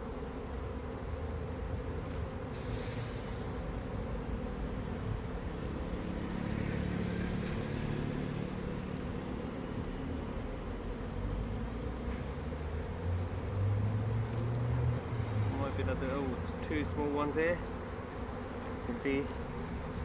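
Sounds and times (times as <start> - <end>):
honey bees buzzing: 0.0 - 20.0.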